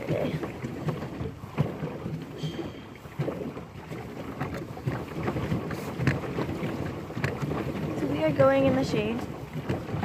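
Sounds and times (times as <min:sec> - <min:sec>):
water splashing around boat: 0:00.0 - 0:10.0
wind buffeting microphone: 0:00.0 - 0:10.0.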